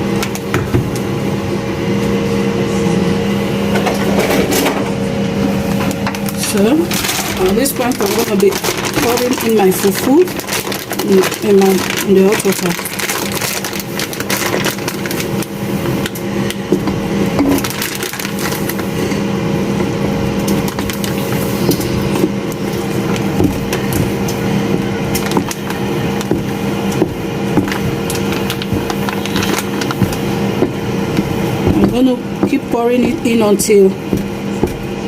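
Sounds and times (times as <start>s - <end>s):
steady hum: 0.0s - 35.0s
dough stirred in a bowl: 6.2s - 35.0s.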